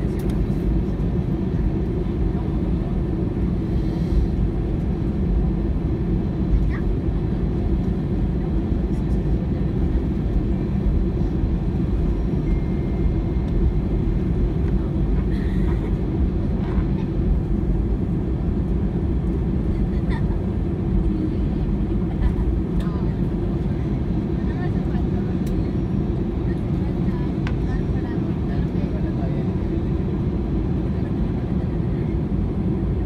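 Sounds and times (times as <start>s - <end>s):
aircraft rolling on taxiway: 0.0s - 33.0s
jet engines running: 0.0s - 33.0s.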